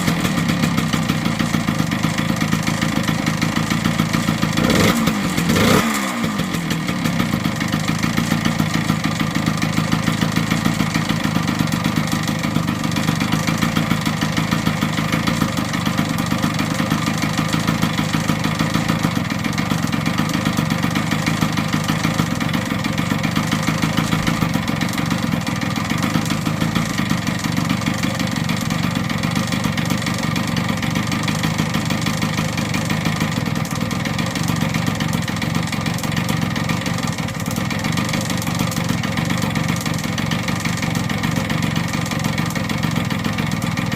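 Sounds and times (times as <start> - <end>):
two-stroke motorcycle engine idling: 0.0 - 43.9.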